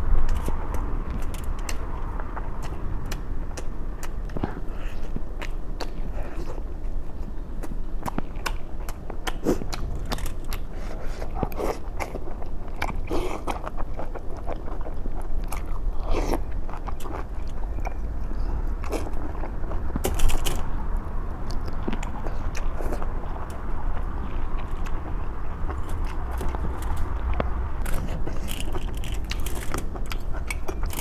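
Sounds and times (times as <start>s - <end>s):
person chewing food: 0.2s - 31.0s.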